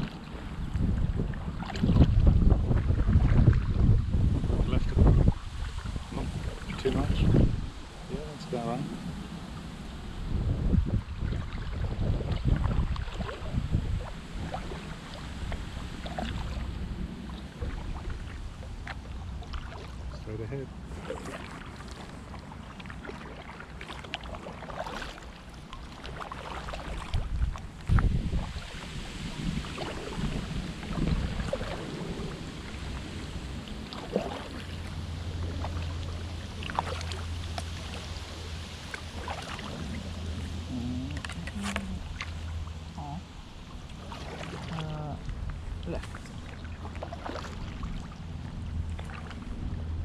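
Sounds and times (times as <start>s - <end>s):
water splashing from paddling: 0.0s - 3.9s, 5.3s - 50.0s
wind rumbling on microphone: 0.0s - 50.0s.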